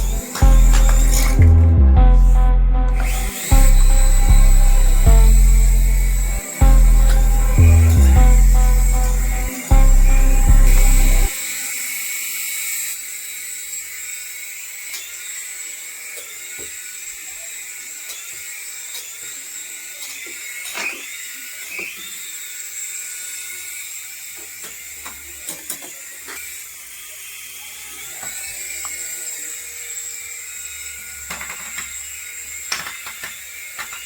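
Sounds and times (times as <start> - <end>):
small electric motor whining: 0.0 - 34.0.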